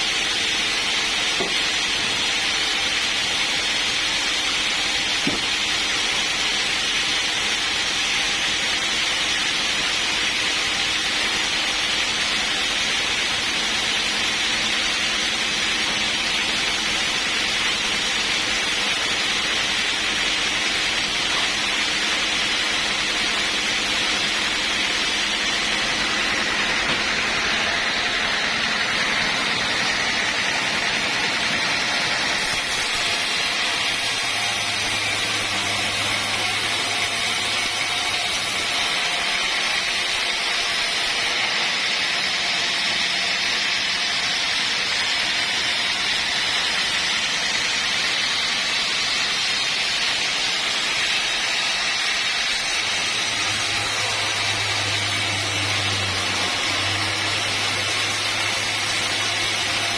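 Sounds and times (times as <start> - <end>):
sawmill machinery hissing: 0.0 - 59.9.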